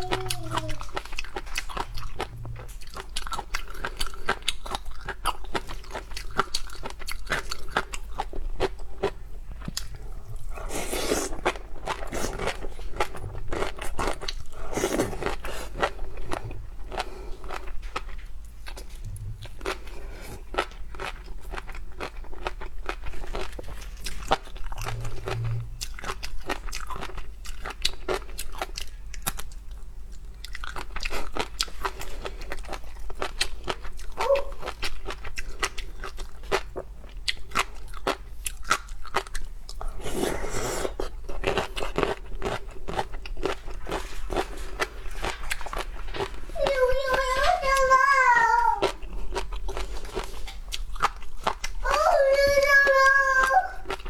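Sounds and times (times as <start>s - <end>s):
chewing and crunching seafood: 0.0s - 52.2s, 53.5s - 54.0s.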